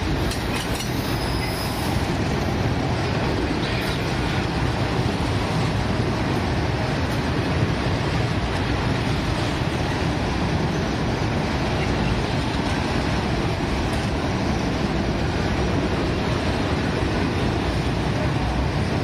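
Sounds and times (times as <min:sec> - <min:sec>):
passing train rumbling: 0:00.0 - 0:19.0.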